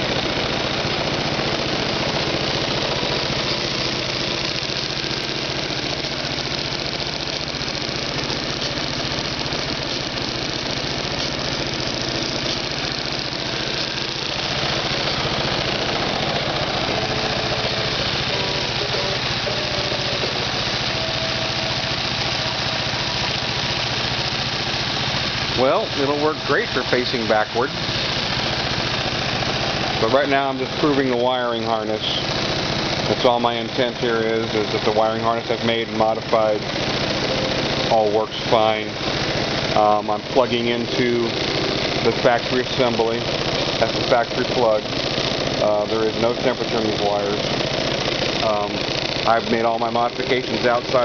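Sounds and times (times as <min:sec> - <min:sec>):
engine idling: 0:00.0 - 0:51.0.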